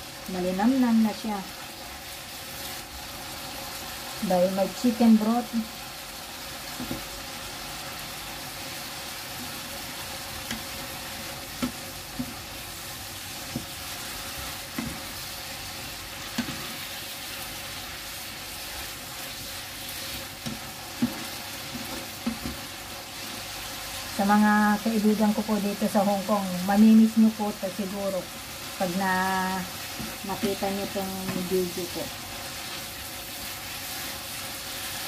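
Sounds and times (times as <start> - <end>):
food sizzling in frying pan: 0.0 - 35.0.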